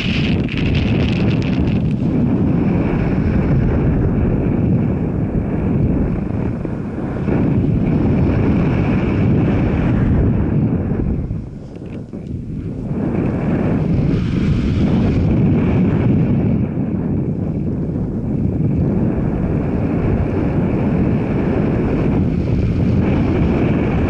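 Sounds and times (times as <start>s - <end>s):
vehicle drone: 0.0s - 24.0s
wind buffeting microphone: 0.0s - 24.0s.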